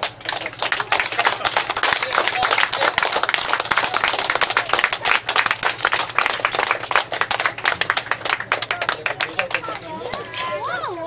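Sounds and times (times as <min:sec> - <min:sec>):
crowd applauding: 0:00.0 - 0:10.3.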